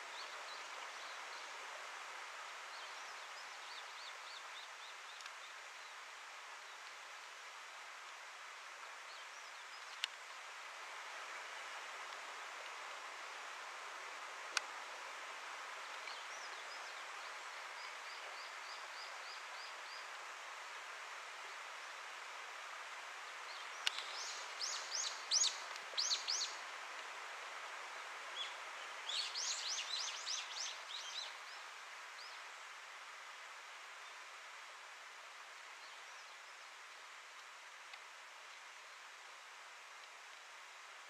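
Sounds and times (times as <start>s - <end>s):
outdoor background hiss: 0.0s - 41.0s.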